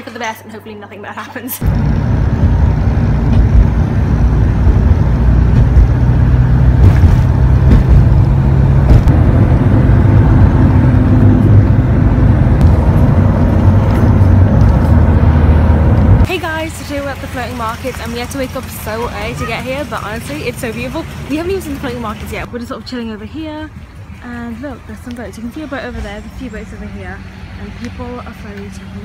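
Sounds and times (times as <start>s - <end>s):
engine droning: 1.6s - 29.0s.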